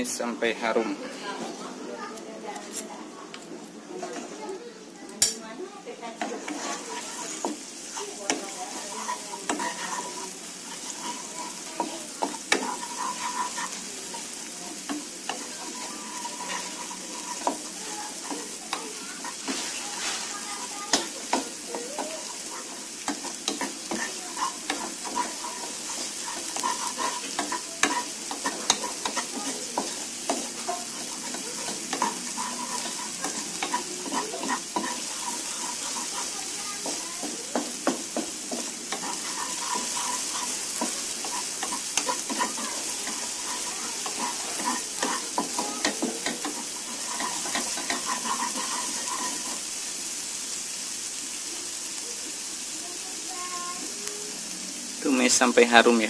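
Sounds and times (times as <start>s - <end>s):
paste sizzling in hot oil: 0.0s - 56.0s
spatula scraping and tapping pan: 2.5s - 4.4s, 6.1s - 50.0s.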